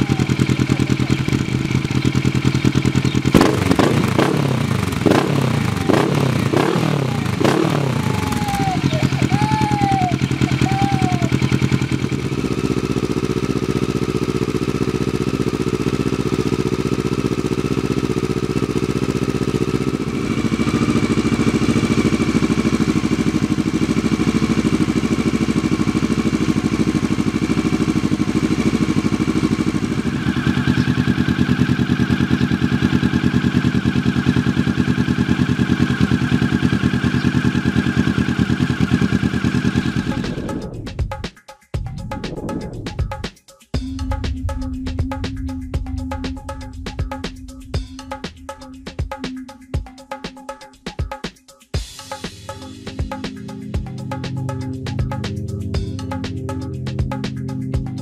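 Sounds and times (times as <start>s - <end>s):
motorcycle engine idling: 0.0s - 43.2s, 43.8s - 50.1s.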